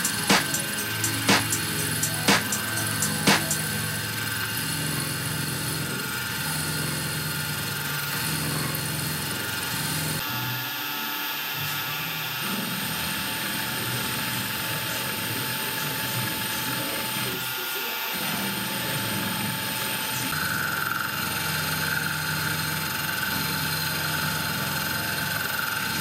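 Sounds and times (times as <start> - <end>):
milling machine cutting metal: 0.0 - 26.0.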